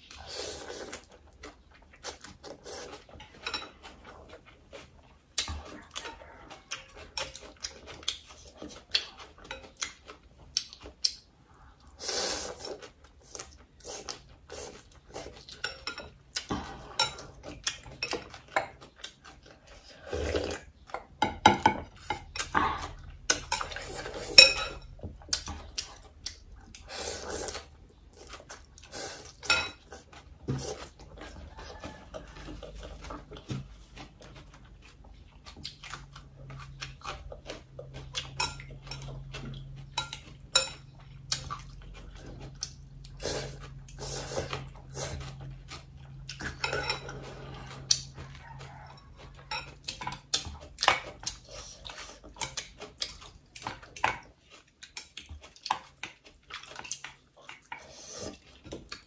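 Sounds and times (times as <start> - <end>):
chewing: 0.0 - 21.2, 21.9 - 59.0.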